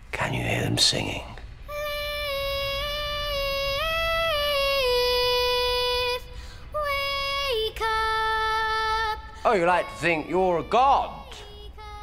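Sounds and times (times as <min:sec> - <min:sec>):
girl singing long notes: 0:01.6 - 0:12.0.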